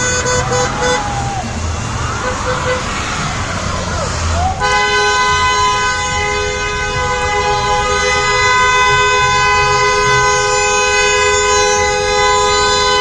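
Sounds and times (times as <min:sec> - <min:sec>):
horns blaring in a chord: 0:00.0 - 0:03.5, 0:04.4 - 0:13.0.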